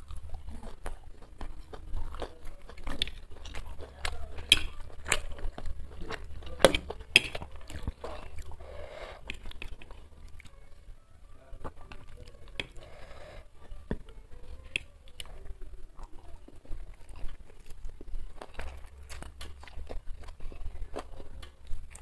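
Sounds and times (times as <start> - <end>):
chewing noodles: 0.0 - 10.9, 11.5 - 22.0.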